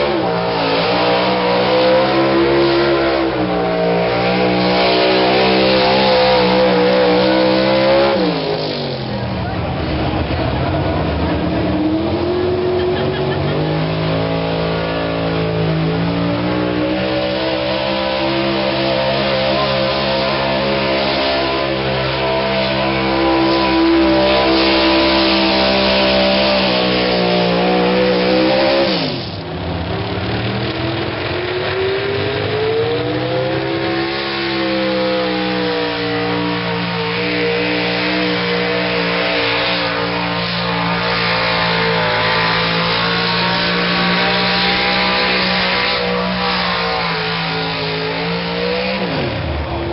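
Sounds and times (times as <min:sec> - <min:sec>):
truck engine at high revs: 0:00.0 - 0:49.9.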